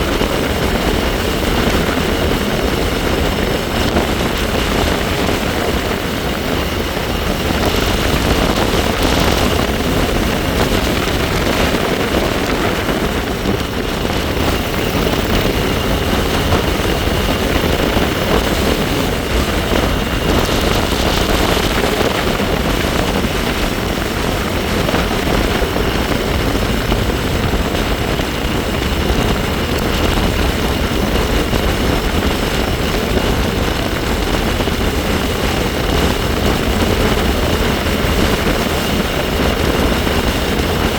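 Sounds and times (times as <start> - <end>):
faint high whine from bike: 0.0 - 40.9
wind rushing over microphone: 0.0 - 40.9.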